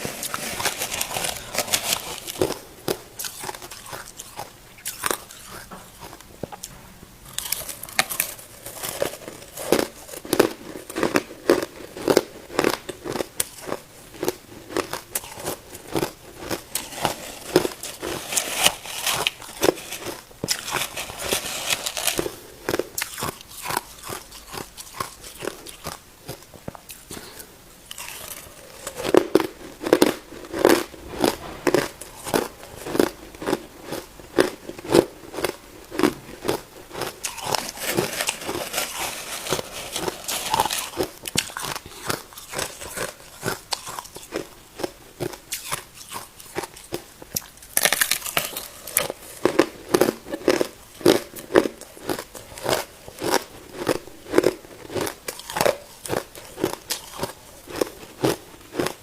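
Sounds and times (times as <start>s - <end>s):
person crunching ice: 0.0s - 6.2s, 7.4s - 27.2s, 27.9s - 59.0s.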